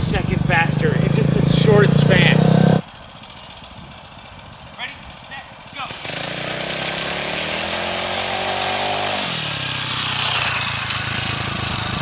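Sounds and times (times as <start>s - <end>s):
dirt bike engine at full throttle: 0.0s - 12.0s.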